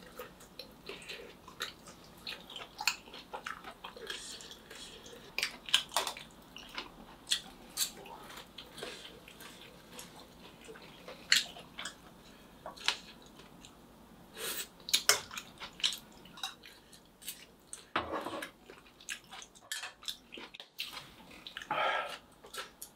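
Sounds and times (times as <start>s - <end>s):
chewing: 0.0s - 13.8s, 14.9s - 22.9s.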